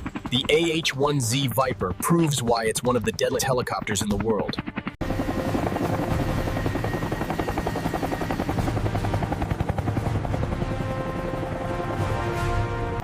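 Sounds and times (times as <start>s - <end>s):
helicopter rotor blades beating: 0.0s - 13.0s.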